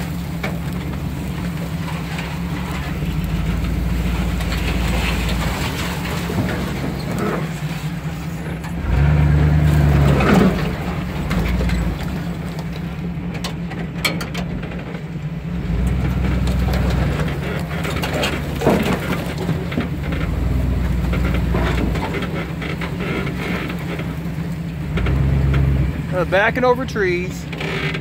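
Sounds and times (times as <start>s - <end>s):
branches scraping against truck: 0.0s - 28.0s
truck engine revving: 0.0s - 28.0s.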